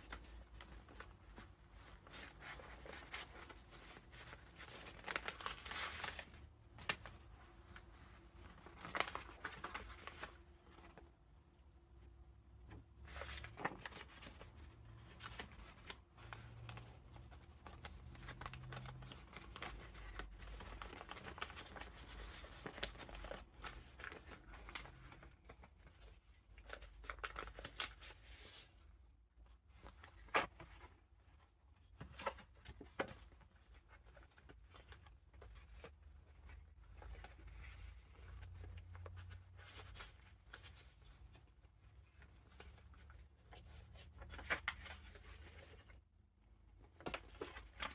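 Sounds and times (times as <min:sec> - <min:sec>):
paper pages rustling and crinkling: 0:00.0 - 0:11.2, 0:12.6 - 0:46.0, 0:46.6 - 0:47.9.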